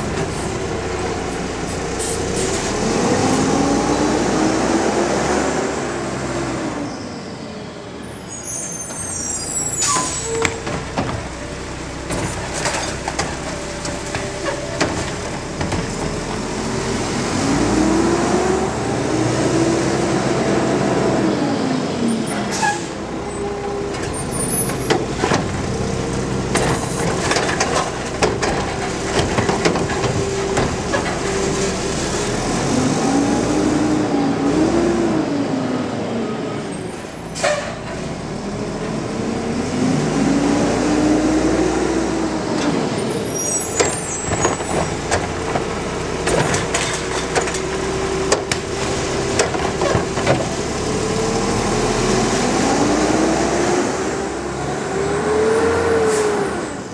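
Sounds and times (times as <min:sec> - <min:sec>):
garbage truck engine revving: 0:00.0 - 0:06.8, 0:09.0 - 0:36.1, 0:37.6 - 0:56.9.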